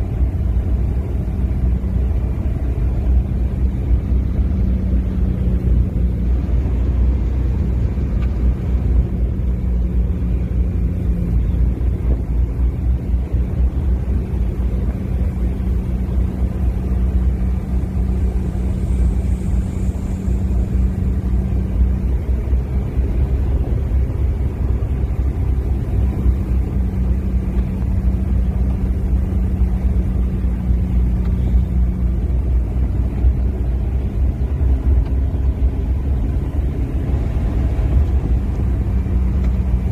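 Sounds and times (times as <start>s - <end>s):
low engine rumble and hum: 0.0s - 39.9s.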